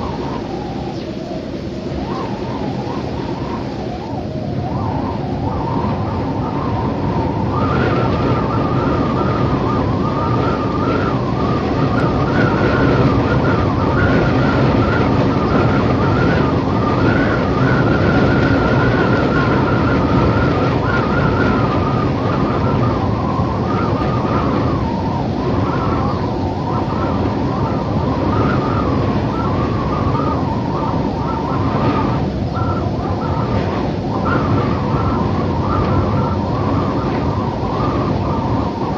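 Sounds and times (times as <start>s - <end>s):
howling wind with whistling tone: 0.0s - 38.9s.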